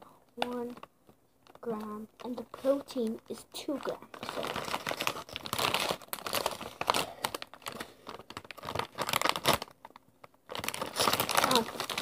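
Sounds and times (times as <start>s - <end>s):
plastic chip bag crinkling: 0.3s - 12.0s.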